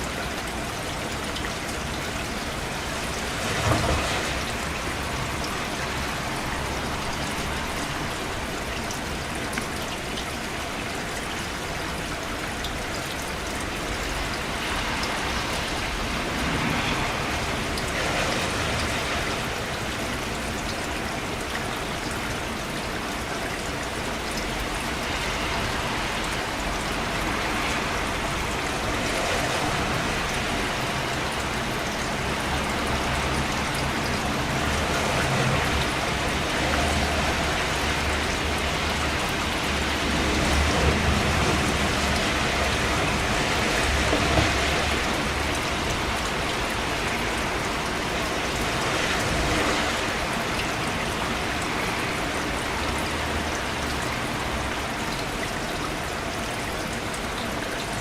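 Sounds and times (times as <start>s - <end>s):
rain pattering on surfaces: 0.0s - 58.0s.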